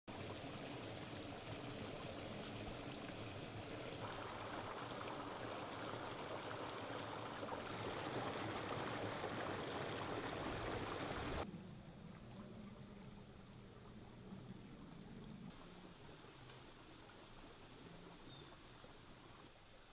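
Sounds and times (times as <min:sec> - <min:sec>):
creek water running over rocks: 0:00.1 - 0:19.9.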